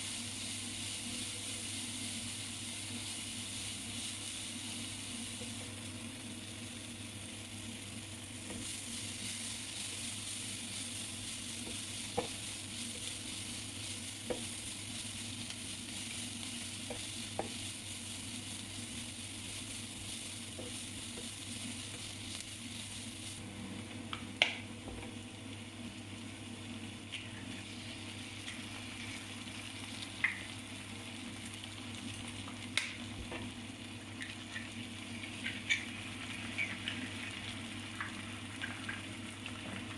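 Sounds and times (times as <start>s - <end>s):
food sizzling on a hot griddle: 0.0s - 23.4s, 24.5s - 39.9s.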